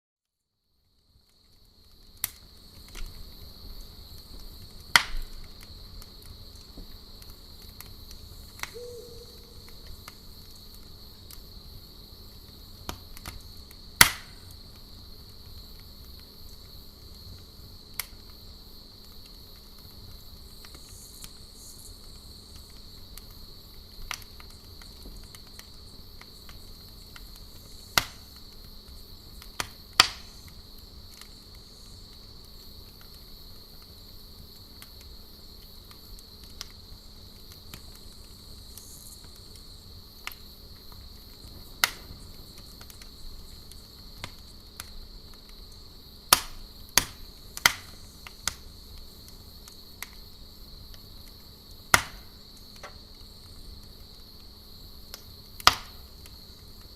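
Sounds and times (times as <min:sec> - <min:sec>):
campfire crackling and popping: 0:00.7 - 0:56.9
high insect trill: 0:01.0 - 0:56.9.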